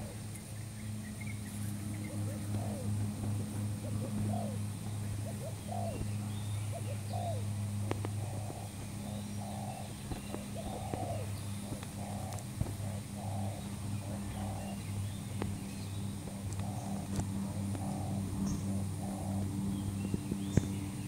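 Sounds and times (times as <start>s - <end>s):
dove cooing: 0.0s - 21.0s
steady low hum: 0.0s - 21.0s.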